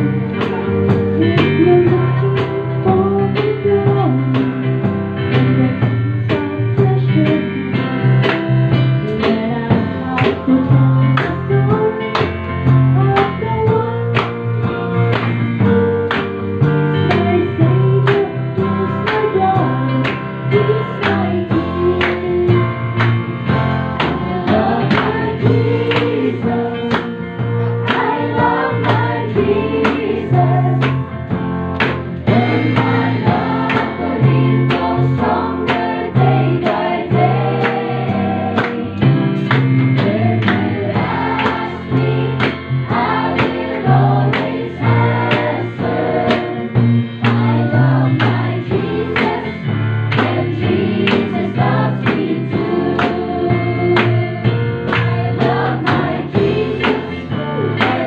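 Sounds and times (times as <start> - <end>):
choir singing gospel song: 0.0 - 4.7, 5.3 - 58.0
instrumental accompaniment with beat: 0.0 - 58.0.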